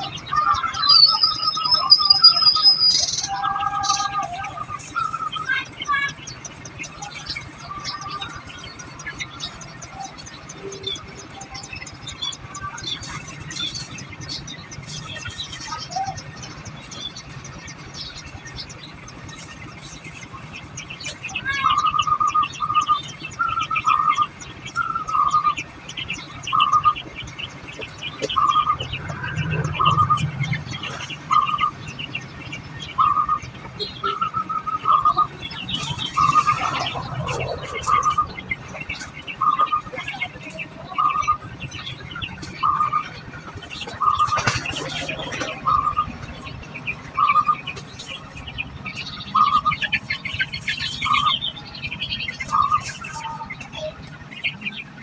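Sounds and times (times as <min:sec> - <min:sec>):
finches chirping: 0:00.0 - 0:55.0.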